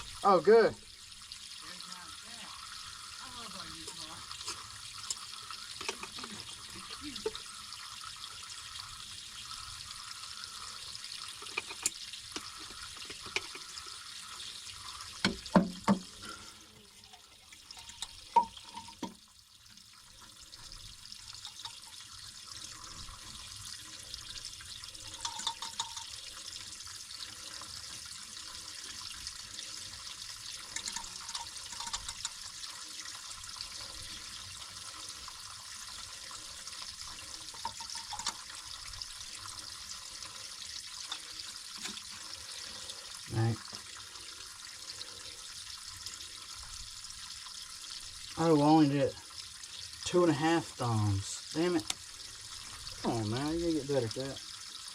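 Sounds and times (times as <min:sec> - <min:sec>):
water running from a pipe: 0:00.0 - 0:54.9.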